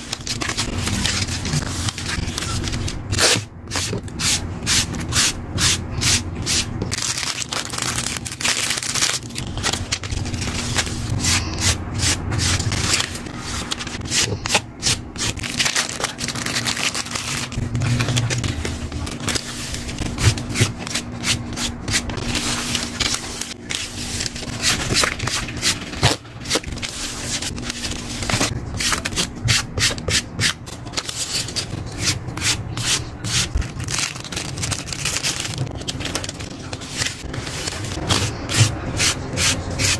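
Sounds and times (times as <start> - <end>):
paper rubbing and scraping: 0.0 - 39.9.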